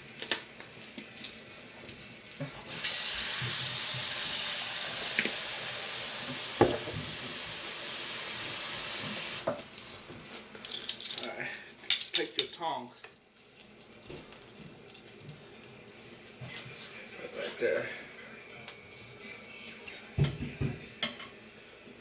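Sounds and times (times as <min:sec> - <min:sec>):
tap water running: 0:00.0 - 0:22.0.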